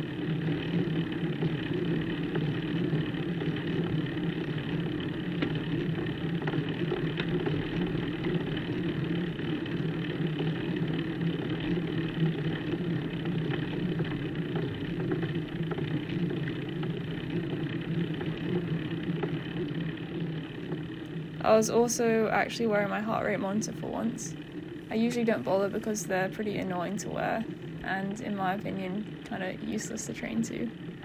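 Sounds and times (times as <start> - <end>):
bike road noise rumble: 0.0 - 31.0.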